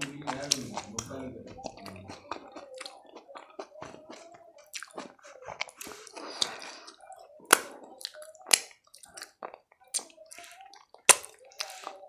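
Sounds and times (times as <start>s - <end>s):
wet chewing with lip smacks: 0.0s - 12.0s.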